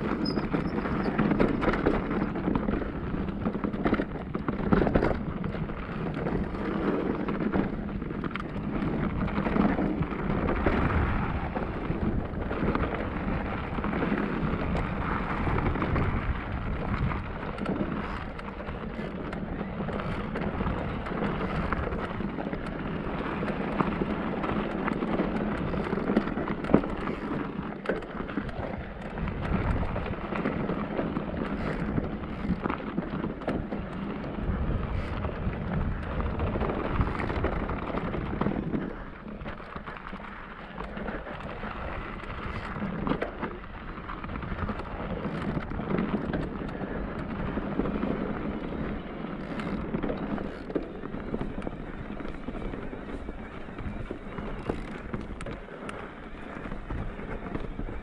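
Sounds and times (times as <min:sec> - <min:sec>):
bike rattling clicks and knocks: 0:00.0 - 0:58.0.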